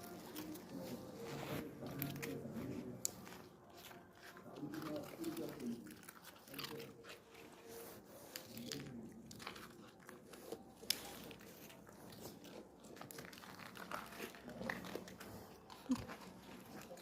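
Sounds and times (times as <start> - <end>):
dog chewing and crunching: 0.0 - 17.0.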